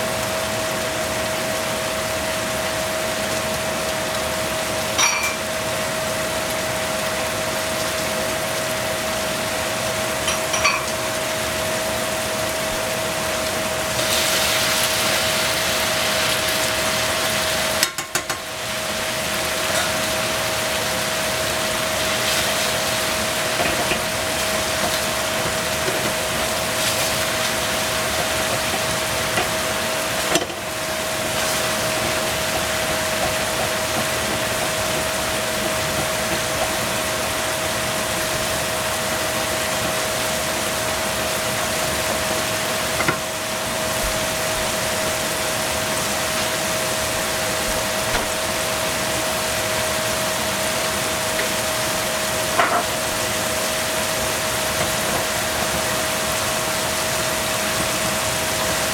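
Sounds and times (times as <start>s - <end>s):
mushrooms sizzling in a frying pan: 0.1s - 58.9s.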